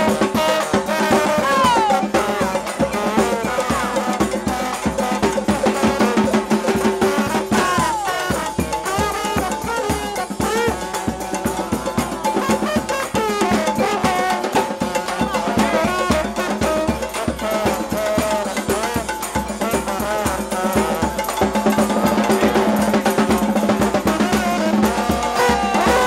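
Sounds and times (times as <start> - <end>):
bass drum and snare beat: 0.0 - 26.0
brass band playing: 0.0 - 26.0.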